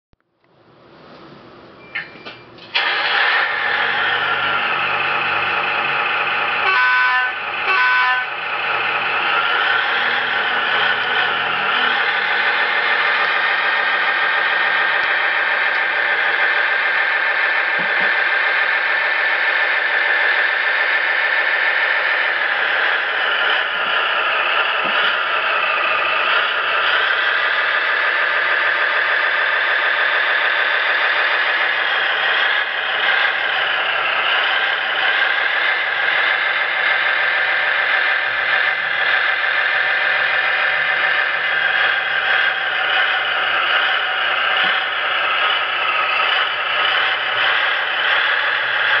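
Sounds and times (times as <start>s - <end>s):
synthesized engine revving: 2.8s - 49.0s.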